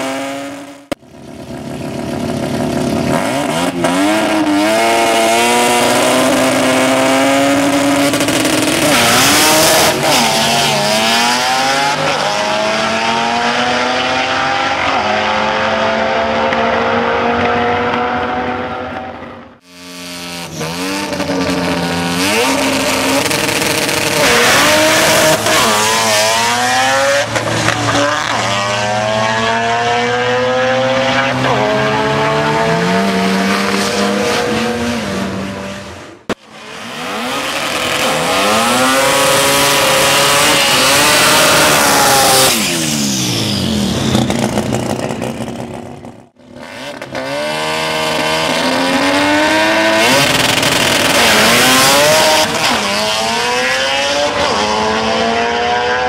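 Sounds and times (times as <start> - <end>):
rotary engine at full throttle: 0.0 - 18.6, 19.6 - 35.6, 36.2 - 56.0.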